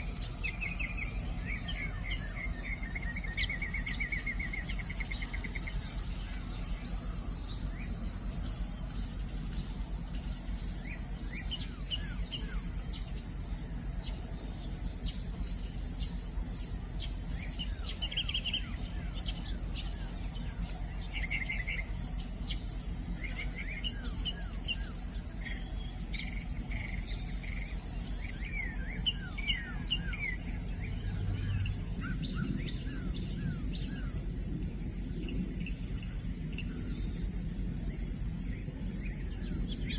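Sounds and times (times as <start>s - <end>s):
insect chorus: 0.0s - 39.9s
low steady rumble: 0.0s - 39.9s.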